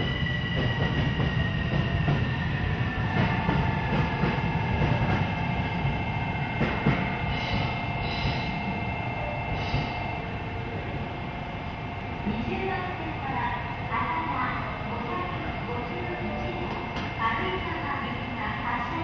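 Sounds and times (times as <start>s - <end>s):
electric locomotive rumbling: 0.0s - 19.0s.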